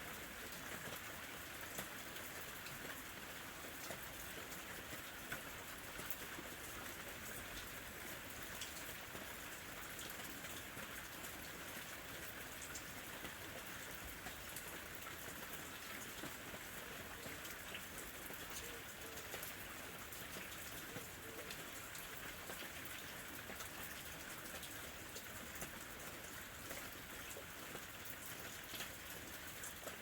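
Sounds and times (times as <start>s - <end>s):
rain falling on a surface: 0.0s - 30.0s.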